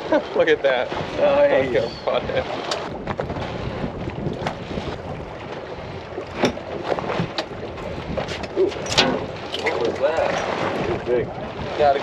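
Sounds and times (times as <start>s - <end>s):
water around boat: 0.0s - 12.0s
wind buffeting microphone: 0.0s - 12.0s.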